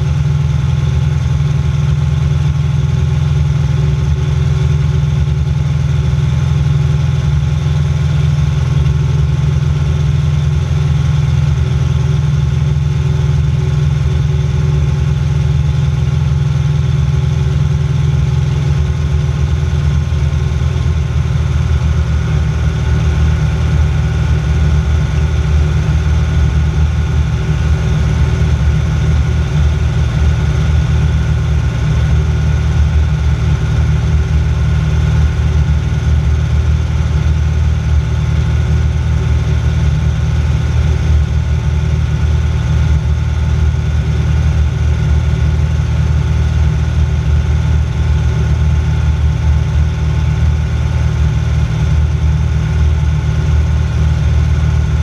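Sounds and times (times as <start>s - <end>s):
plane engine and propeller: 0.0s - 55.0s.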